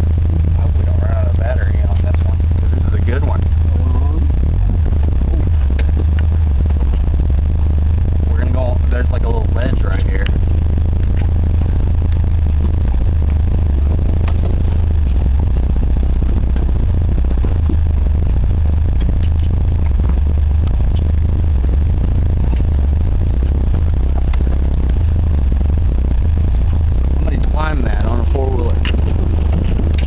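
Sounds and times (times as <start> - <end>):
vehicle engine drone: 0.0 - 30.0.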